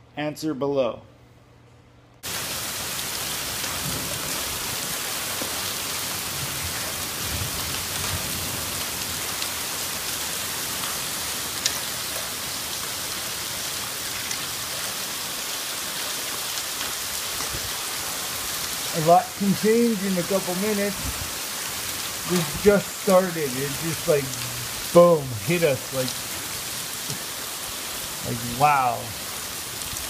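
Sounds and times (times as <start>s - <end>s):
hailstones ticking: 2.2s - 30.0s
heavy rain: 2.2s - 30.0s.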